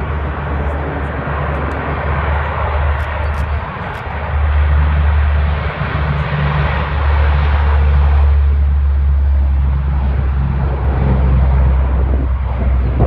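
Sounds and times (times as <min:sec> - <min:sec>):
turboprop aircraft engines droning: 0:00.0 - 0:13.0.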